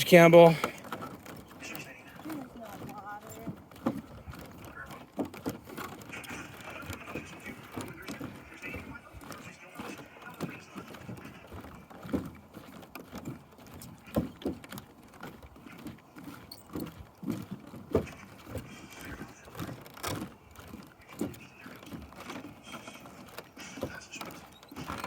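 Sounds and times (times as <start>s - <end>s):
footsteps on wooden boards: 0.0s - 25.0s.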